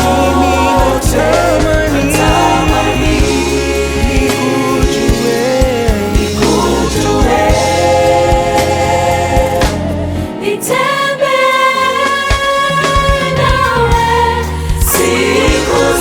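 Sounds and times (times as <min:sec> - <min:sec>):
band with bass and drums: 0:00.0 - 0:10.3, 0:12.1 - 0:16.0
voices singing held chords: 0:00.0 - 0:16.0.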